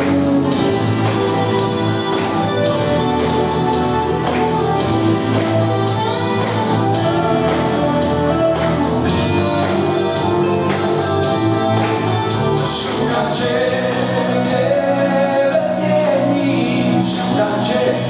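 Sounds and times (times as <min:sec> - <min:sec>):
instrumental pop band music: 0:00.0 - 0:18.0.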